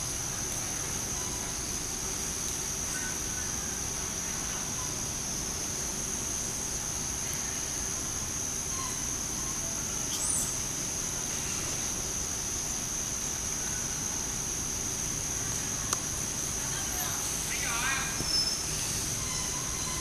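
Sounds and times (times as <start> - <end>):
insects droning: 0.0 - 20.0
outdoor hiss: 0.0 - 20.0.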